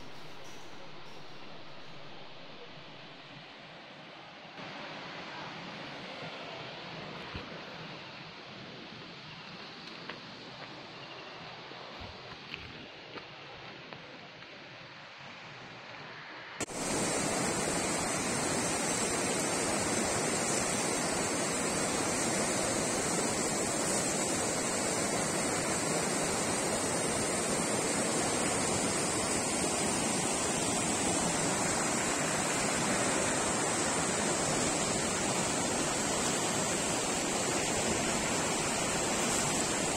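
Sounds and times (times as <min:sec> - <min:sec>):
waterfall and rapids rushing: 0:00.0 - 0:39.9.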